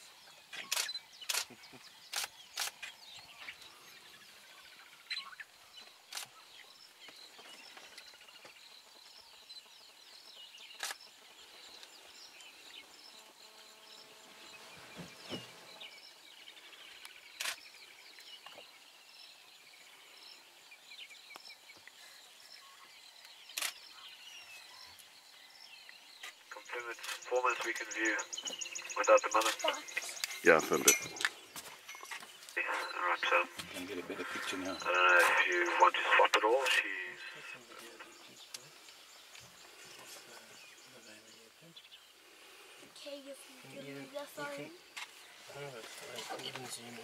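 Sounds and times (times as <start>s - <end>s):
birds chirping and calling: 0.0s - 47.0s.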